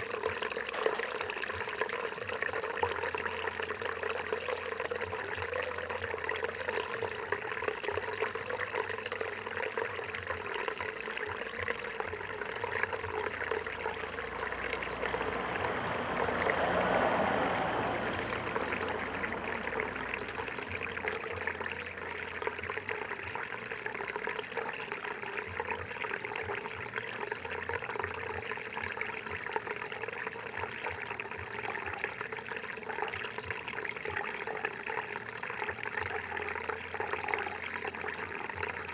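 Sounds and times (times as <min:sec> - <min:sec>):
water gurgling and trickling: 0:00.0 - 0:38.9.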